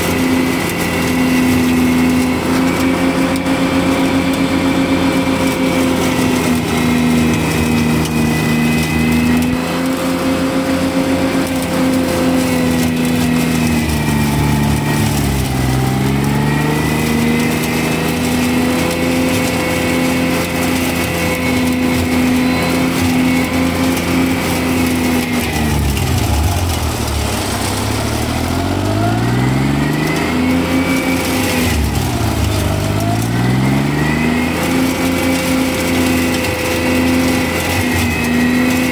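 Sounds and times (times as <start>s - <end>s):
flail mower cutting weeds: 0.0s - 38.9s
tractor engine running hard: 0.0s - 38.9s.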